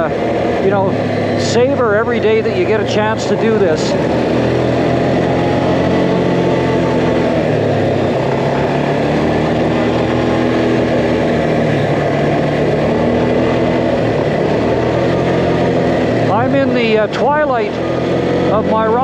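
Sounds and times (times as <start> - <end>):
quad engine running: 0.0 - 19.0.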